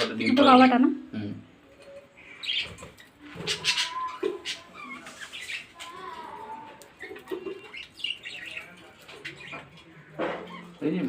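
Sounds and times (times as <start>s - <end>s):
budgerigars chirping and chattering: 1.8s - 11.0s.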